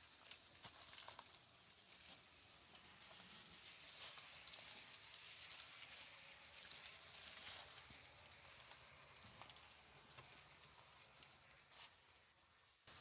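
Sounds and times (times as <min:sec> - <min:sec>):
soft irregular ticks: 0:00.0 - 0:12.3.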